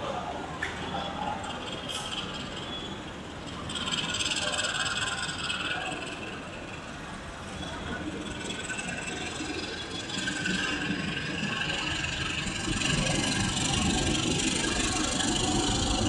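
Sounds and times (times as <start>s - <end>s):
train running: 0.2s - 16.0s.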